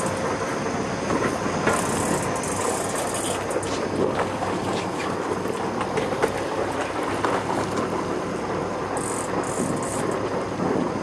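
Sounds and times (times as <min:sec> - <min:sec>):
boat engine running: 0:00.0 - 0:11.0
water washing along hull: 0:00.0 - 0:11.0.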